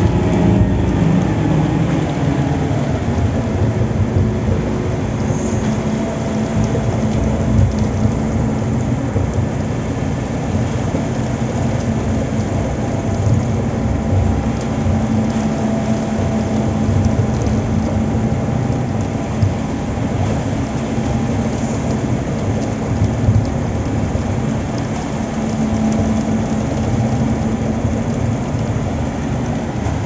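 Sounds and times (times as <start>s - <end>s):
heavy machinery low rumble: 0.0s - 30.0s
steady machine hum: 0.0s - 30.0s.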